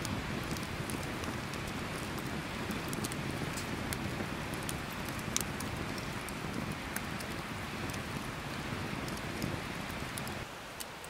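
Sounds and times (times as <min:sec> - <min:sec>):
sharp pops from fire: 0:00.0 - 0:10.9
campfire crackling: 0:00.0 - 0:11.0.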